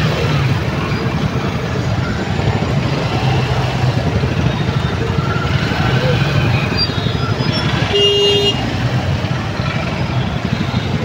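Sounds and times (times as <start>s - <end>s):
motorcycle engines idling in traffic: 0.0s - 11.0s.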